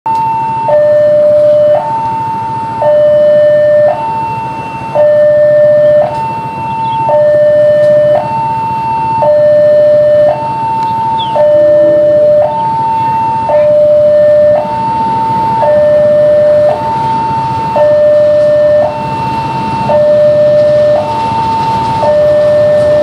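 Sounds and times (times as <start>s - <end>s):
two-tone crossing alarm: 0.1s - 23.0s.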